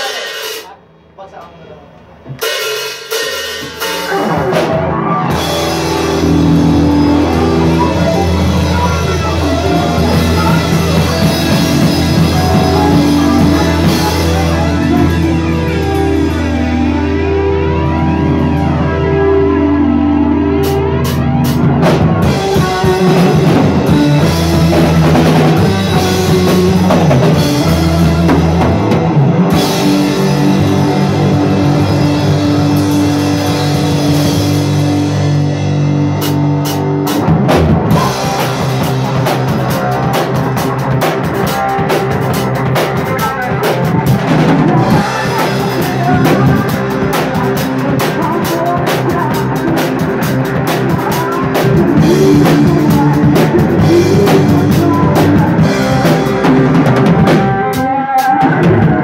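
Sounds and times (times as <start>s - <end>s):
drum kit with cymbals: 0.0s - 19.2s, 20.5s - 59.0s
bass chords: 1.9s - 59.0s
electric guitar chords: 2.0s - 59.0s.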